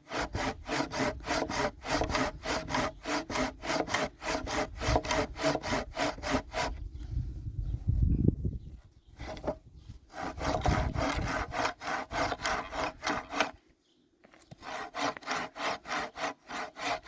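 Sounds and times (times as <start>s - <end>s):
hand saw cutting wood: 0.0s - 6.9s, 9.2s - 13.6s, 14.4s - 17.0s.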